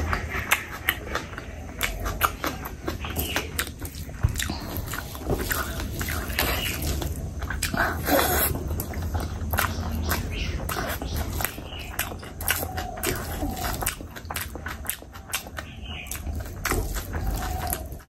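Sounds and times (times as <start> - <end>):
wet chewing and lip smacking: 0.0 - 18.0.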